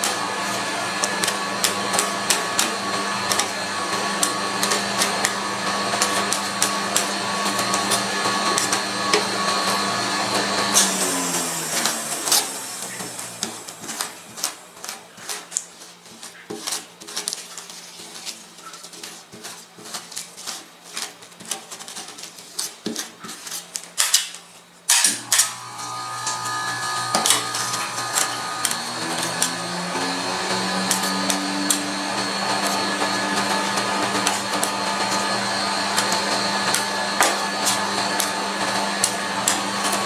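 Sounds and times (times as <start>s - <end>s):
metal spatulas tapping and scraping: 0.0s - 11.0s, 11.7s - 25.6s, 26.3s - 40.0s.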